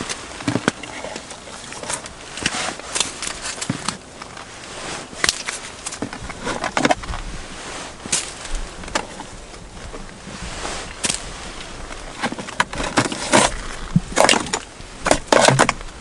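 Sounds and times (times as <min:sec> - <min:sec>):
rustles and scrapes on snow: 0:00.0 - 0:16.0.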